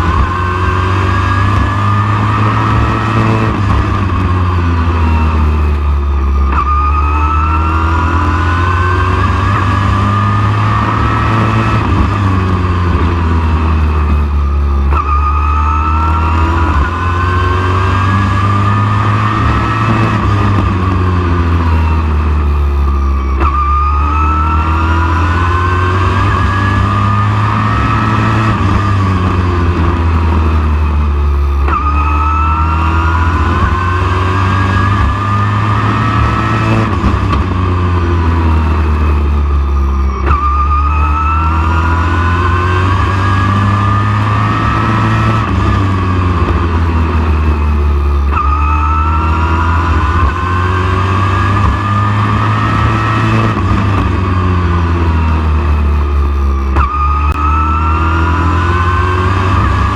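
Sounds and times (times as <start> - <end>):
race truck engine accelerating: 0.0 - 59.9.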